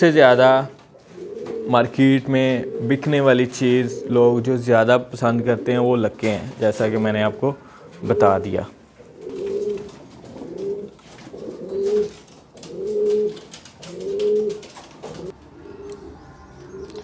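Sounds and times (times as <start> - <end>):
birds clicking and scraping: 0.7 - 4.2, 5.5 - 17.0
pigeons cooing: 0.8 - 17.0.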